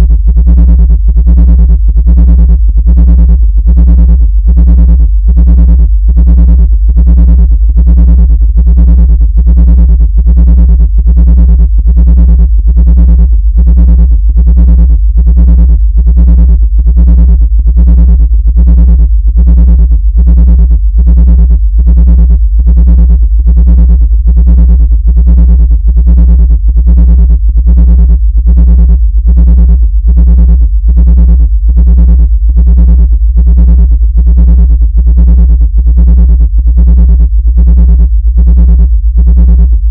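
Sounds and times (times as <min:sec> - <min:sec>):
pulsing deep bass tone: 0:00.0 - 0:39.9.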